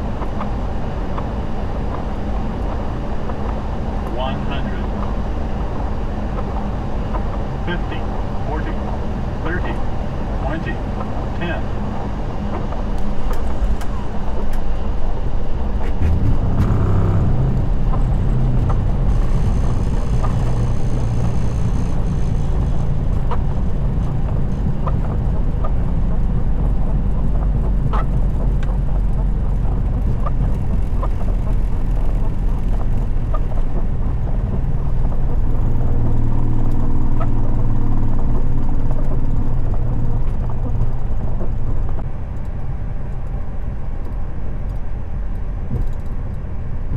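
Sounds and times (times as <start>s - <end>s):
aircraft cockpit low rumble: 0.0s - 46.9s.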